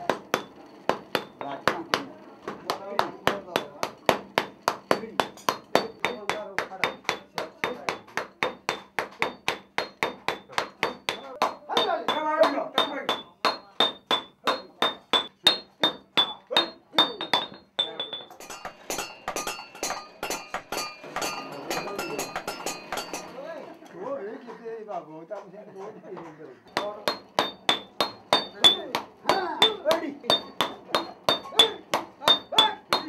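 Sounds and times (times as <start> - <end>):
hammers striking brass bowl: 0.0 - 23.4, 26.7 - 33.0.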